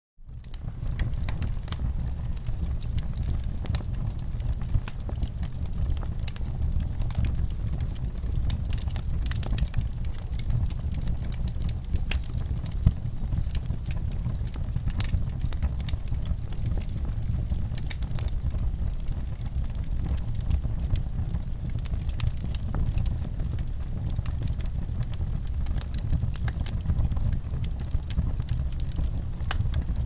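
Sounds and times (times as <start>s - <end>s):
fire popping and snapping: 0.3s - 30.0s
wood fire crackling: 0.3s - 30.0s.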